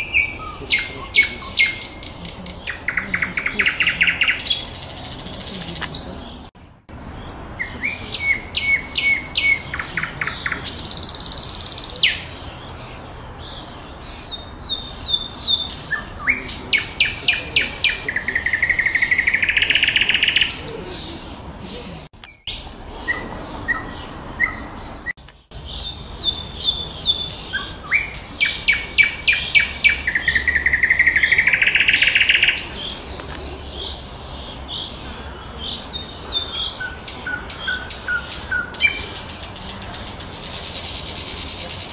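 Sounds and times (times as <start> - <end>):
nightingale singing: 0.0 - 21.4, 22.2 - 41.9.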